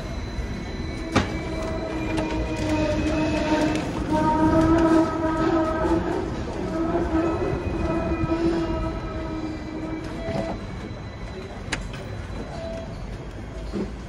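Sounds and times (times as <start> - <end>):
tram rumbling and humming: 0.0 - 14.0.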